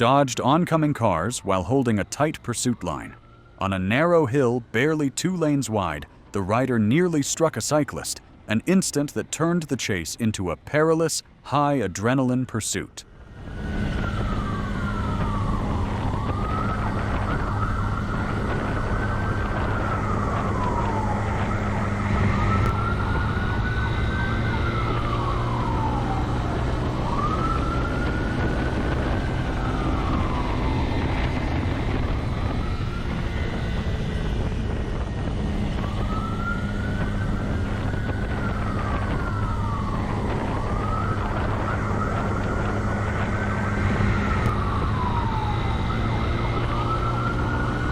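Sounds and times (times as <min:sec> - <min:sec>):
police siren wailing: 0:00.0 - 0:08.2, 0:12.8 - 0:47.9
car engine and road noise: 0:00.0 - 0:47.9.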